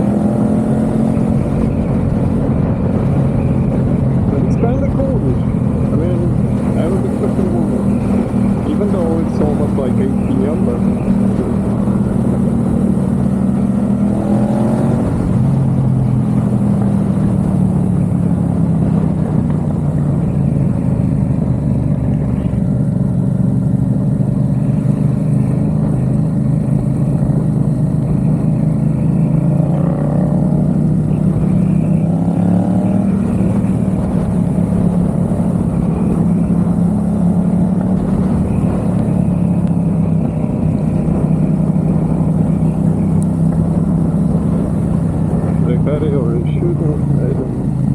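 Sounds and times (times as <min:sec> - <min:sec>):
motorcycle engine riding: 0:00.0 - 0:47.9.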